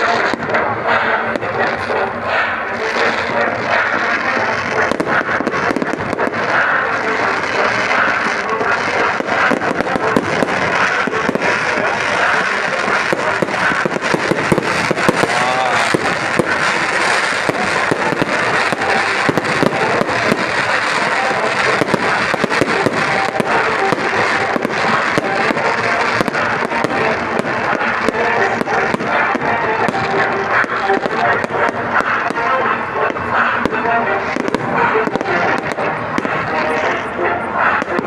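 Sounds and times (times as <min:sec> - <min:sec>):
crackling fireworks: 0:00.0 - 0:38.0.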